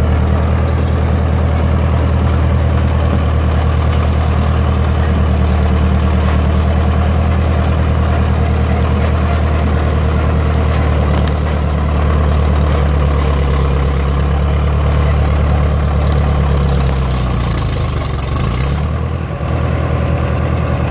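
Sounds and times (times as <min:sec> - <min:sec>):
diesel engine running: 0:00.0 - 0:20.9
dozer blade pushing brush and dirt: 0:00.0 - 0:20.9.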